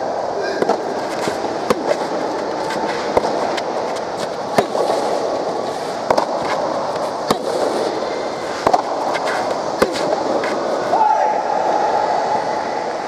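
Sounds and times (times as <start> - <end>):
background noise: 0.0 - 13.0
rackets striking ball: 0.4 - 11.0.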